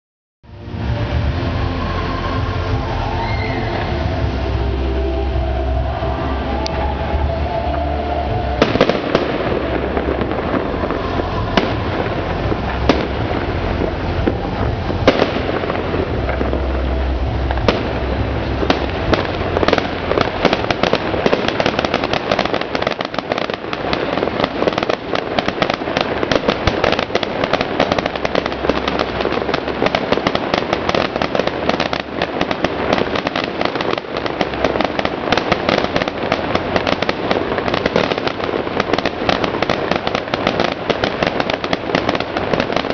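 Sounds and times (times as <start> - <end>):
fireworks crackling: 0.5 - 42.9
fireworks bangs: 0.7 - 42.9.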